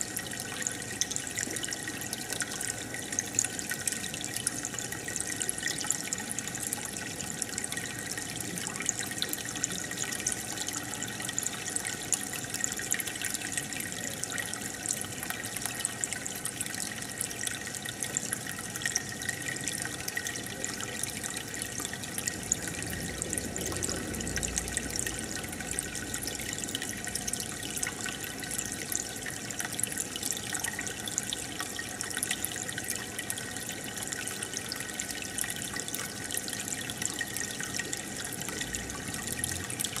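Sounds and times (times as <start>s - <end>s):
aquarium water trickling and bubbling: 0.0s - 40.0s.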